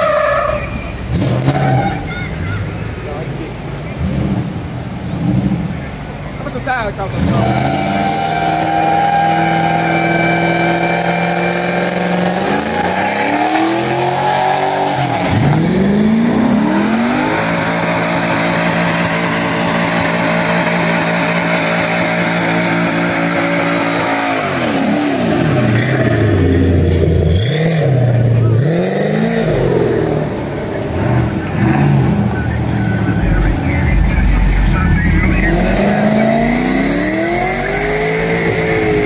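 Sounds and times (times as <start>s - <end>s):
car engine revving hard: 6.7s - 39.0s.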